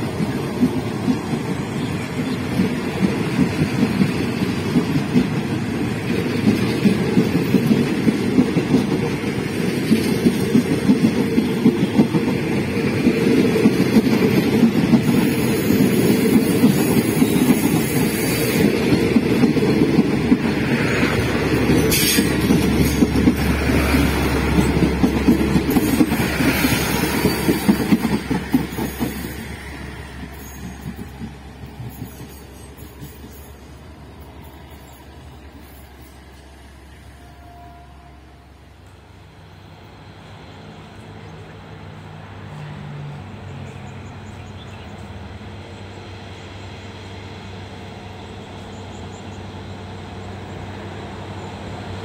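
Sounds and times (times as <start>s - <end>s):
train wheels rattling on rails: 0.0s - 52.0s.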